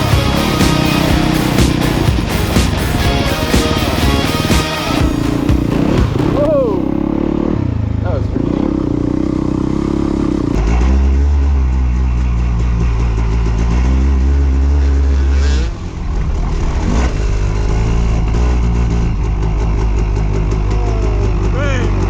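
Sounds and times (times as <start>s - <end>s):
dirt bike engine under throttle: 0.0s - 22.0s.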